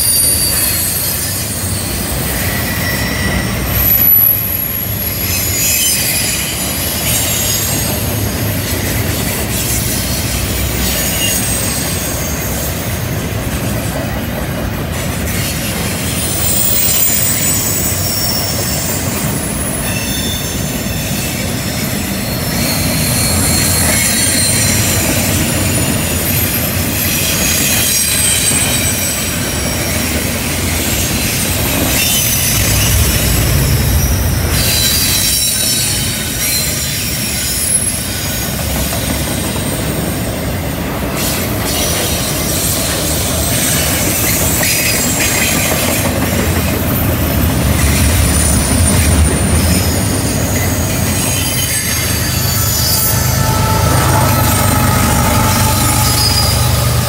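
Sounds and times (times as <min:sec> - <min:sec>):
high-pitched wheel squeal: 0:00.0 - 0:13.0, 0:15.3 - 0:38.7, 0:41.2 - 0:57.0
train wheels rumbling on rail: 0:00.0 - 0:57.0.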